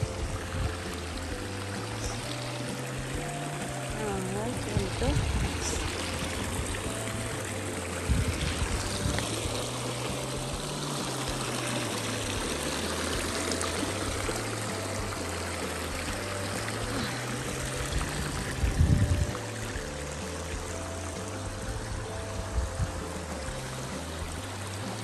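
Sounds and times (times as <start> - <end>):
low rumble: 0.0 - 24.5
creek water over rocks: 0.0 - 25.0
soft background music: 0.0 - 25.0.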